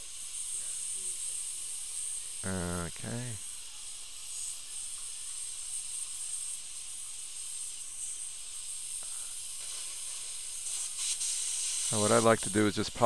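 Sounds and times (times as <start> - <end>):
dental drill high hiss: 0.0 - 13.0.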